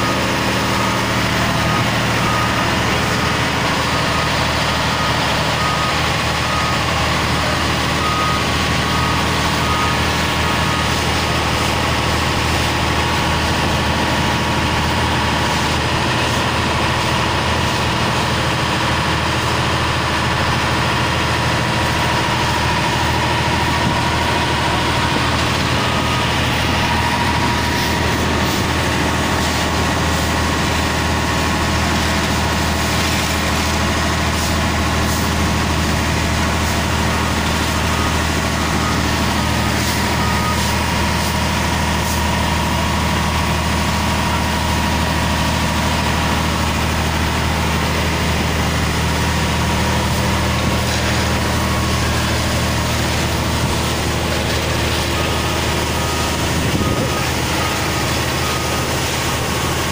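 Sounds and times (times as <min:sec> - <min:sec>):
diesel engine running: 0:00.0 - 0:59.9
water spraying on pavement: 0:00.0 - 0:59.9.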